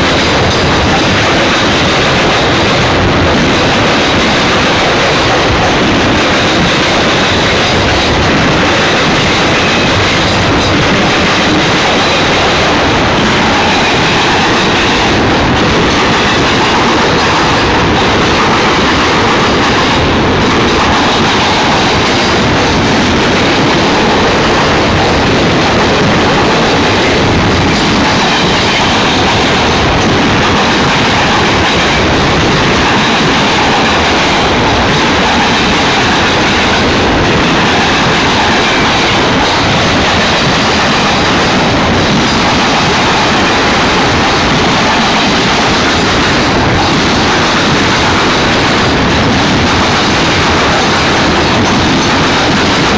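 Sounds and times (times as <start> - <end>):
freight train rolling past: 0.0 - 52.9.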